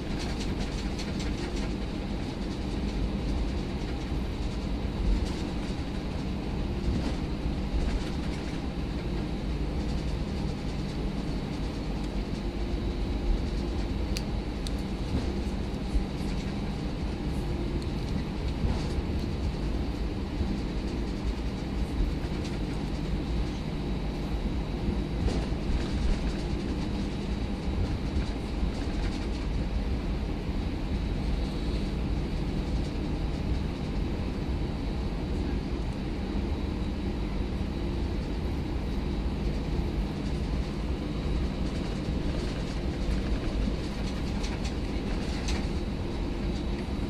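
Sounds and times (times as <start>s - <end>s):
low rumble of engines and airflow: 0.0s - 47.0s.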